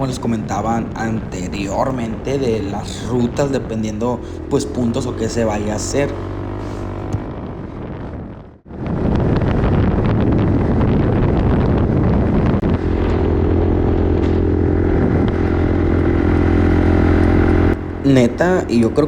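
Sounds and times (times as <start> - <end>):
atv engine running: 0.0 - 8.4, 12.0 - 19.0.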